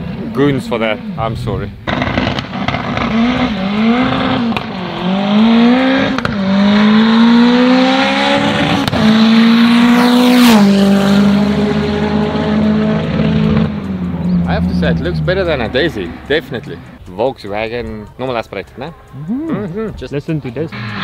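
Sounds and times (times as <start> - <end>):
drag racing car accelerating: 0.0 - 17.0, 20.7 - 21.0.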